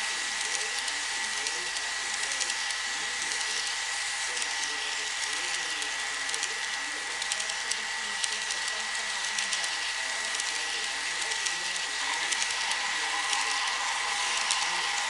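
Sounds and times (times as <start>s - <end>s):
model train wheels clicking on track: 0.0s - 15.0s
steady hiss: 0.0s - 15.0s.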